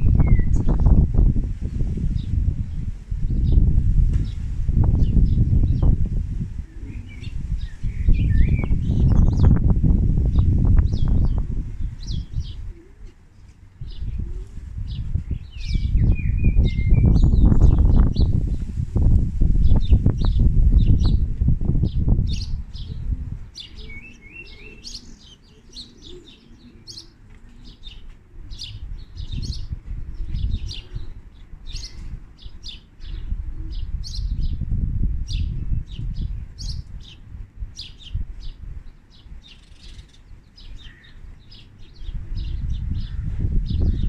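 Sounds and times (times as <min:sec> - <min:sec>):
small birds chirping: 0:00.0 - 0:06.1, 0:06.8 - 0:18.6, 0:19.6 - 0:44.0.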